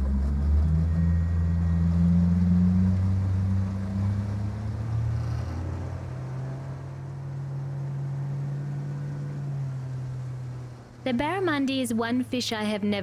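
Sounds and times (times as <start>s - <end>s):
outboard motor drone: 0.0s - 13.0s.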